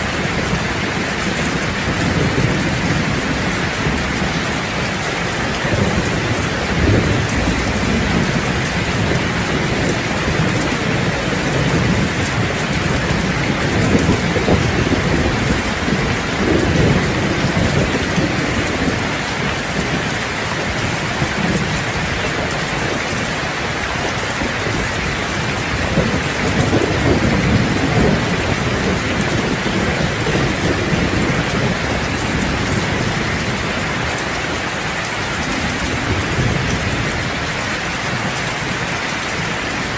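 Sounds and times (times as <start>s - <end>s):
heavy rain on a roof: 0.0s - 39.9s
low rolling thunder: 0.0s - 39.9s.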